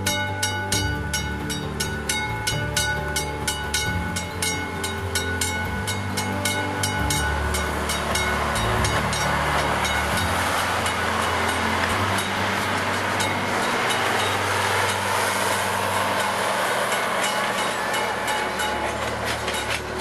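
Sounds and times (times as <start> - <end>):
diesel locomotive passing: 0.0 - 20.0
level-crossing bell ringing: 0.0 - 20.0.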